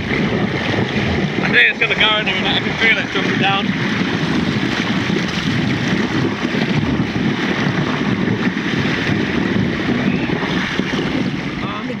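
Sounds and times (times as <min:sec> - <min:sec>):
water churning: 0:00.0 - 0:12.0
wind buffeting microphone: 0:00.0 - 0:12.0.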